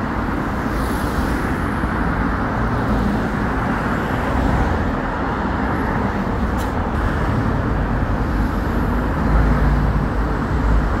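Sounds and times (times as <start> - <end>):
cars passing close: 0.0 - 11.0.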